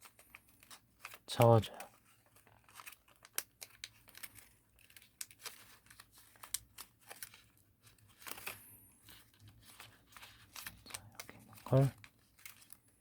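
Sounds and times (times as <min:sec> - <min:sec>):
paper crackling and creasing: 0:00.0 - 0:13.0.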